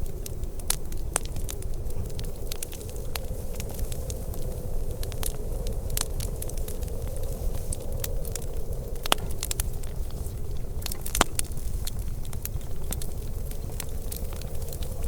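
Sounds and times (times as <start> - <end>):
fire pops: 0.0 - 15.0
low rumble: 0.0 - 15.0
wood fire crackling: 0.0 - 15.0.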